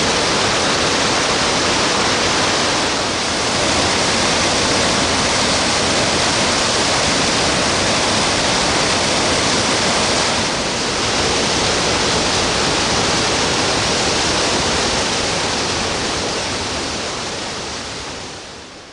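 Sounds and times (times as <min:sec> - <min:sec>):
waterfall pouring: 0:00.0 - 0:17.6.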